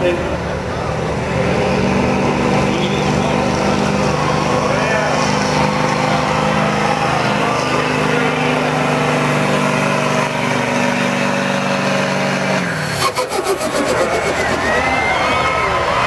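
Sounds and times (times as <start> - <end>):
diesel engine revving under load: 0.0 - 16.0.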